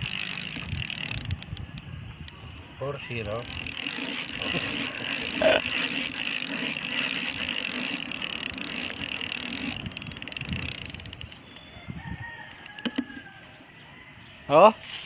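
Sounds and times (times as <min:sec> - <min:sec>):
fishing reel whirring: 0:00.0 - 0:13.4.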